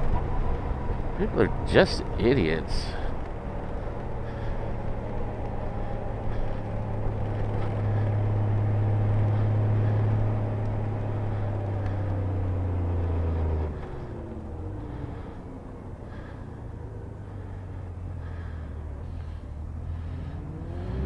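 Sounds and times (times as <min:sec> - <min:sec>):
motorcycle engine drone: 0:00.0 - 0:21.0
wind and road noise: 0:00.0 - 0:21.0.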